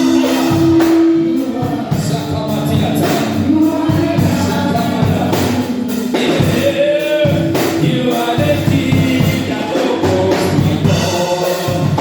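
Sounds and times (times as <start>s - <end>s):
band accompaniment: 0.0s - 12.0s
voices singing gospel song: 0.0s - 12.0s.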